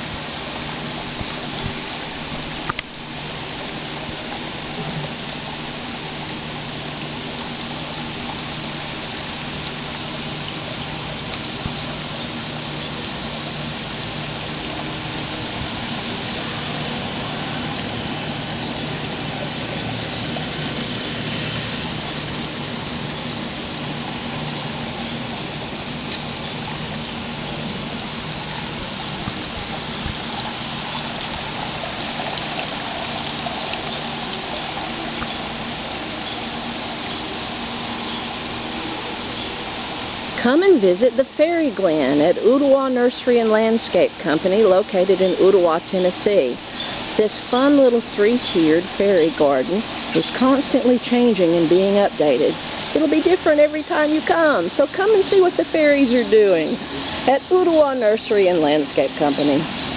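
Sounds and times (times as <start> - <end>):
fountain water trickling: 0.0 - 59.9.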